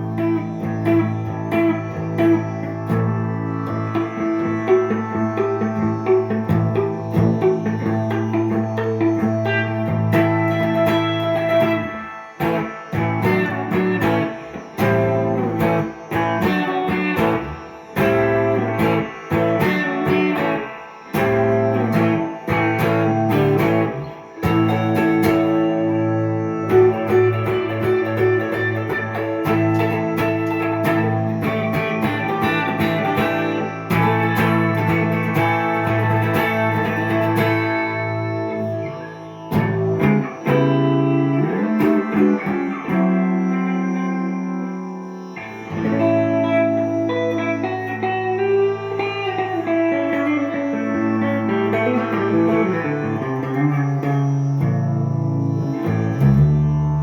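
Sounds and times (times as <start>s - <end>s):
jazzy electric guitar improvising: 0.0s - 57.0s.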